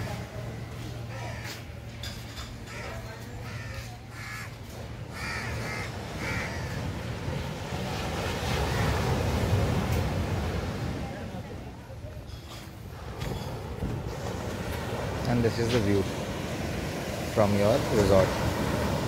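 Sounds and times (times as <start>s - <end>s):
surf rumbling: 0.0s - 1.9s, 2.5s - 19.0s
wind: 0.0s - 19.0s.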